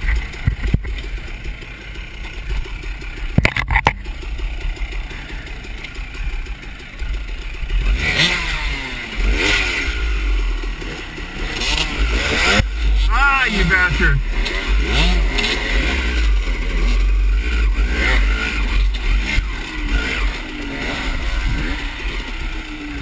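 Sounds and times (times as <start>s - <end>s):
dirt bike engines running: 0.0s - 23.0s
engine revving: 1.5s - 23.0s.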